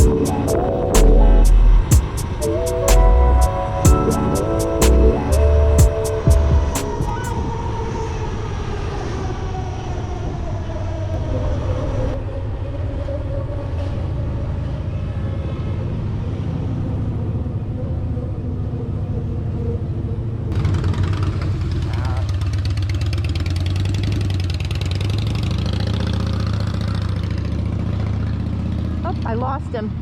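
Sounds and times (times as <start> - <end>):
road and wind rumble: 0.0 - 30.0.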